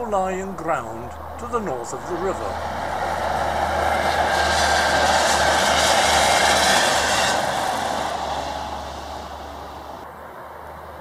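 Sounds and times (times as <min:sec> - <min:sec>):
diesel train crossing a bridge: 0:00.0 - 0:11.0.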